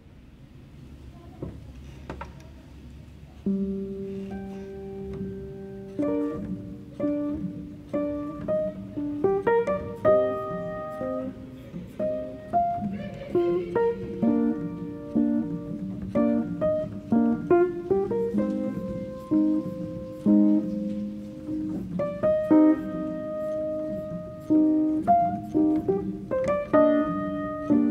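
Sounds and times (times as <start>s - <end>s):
slow guitar melody: 3.4s - 27.9s.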